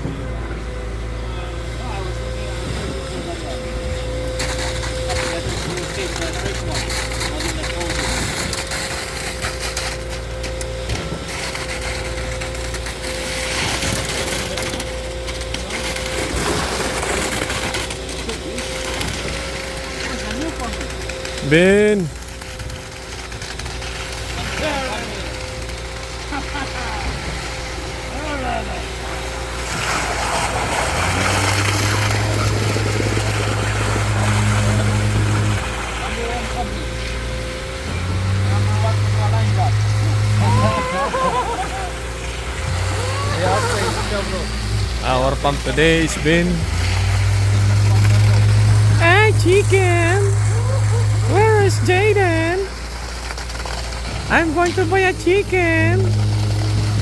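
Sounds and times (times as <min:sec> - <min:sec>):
machine hum and whine: 0:00.0 - 0:57.0
noisy site background: 0:00.0 - 0:57.0
crunching and scraping: 0:03.8 - 0:28.0, 0:28.8 - 0:57.0.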